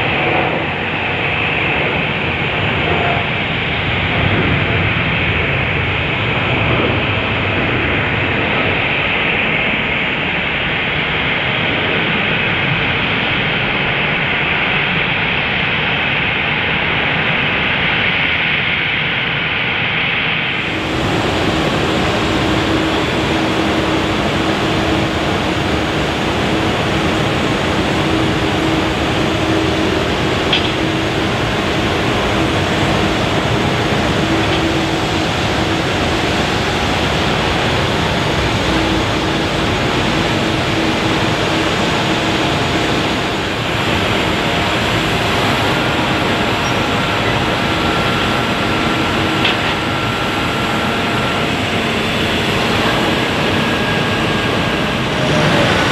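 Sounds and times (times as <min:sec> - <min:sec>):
high engine whine: 0:00.0 - 0:55.9
jet engines running: 0:00.0 - 0:55.9.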